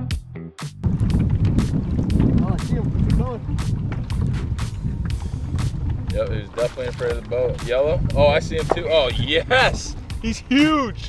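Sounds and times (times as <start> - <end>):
background music with beat: 0.0 - 11.0
wind buffeting microphone: 0.8 - 11.0.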